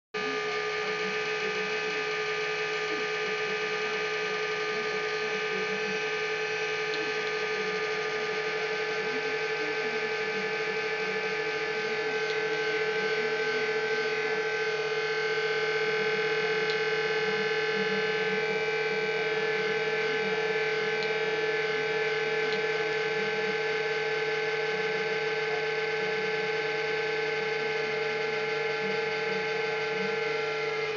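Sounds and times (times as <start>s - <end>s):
cooling fans humming: 0.2s - 30.9s.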